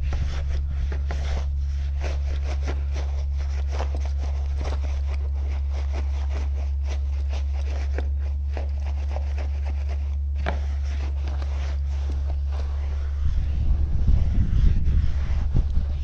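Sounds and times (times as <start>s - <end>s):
brush scrubbing wheel rim: 0.0s - 16.0s
low hum: 0.0s - 16.0s.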